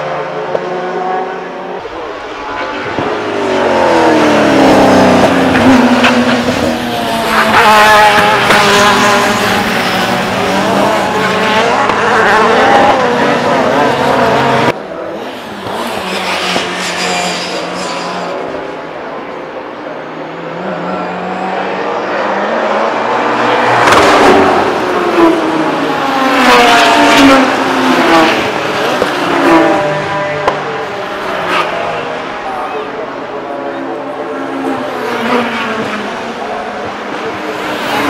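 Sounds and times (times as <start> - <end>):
race car engines passing: 0.0 - 38.0.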